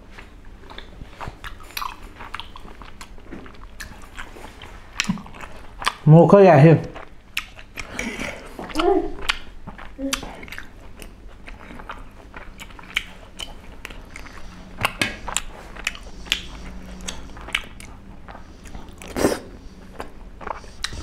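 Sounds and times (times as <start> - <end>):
wet chewing and mouth smacks: 0.2 - 6.1, 6.8 - 21.0.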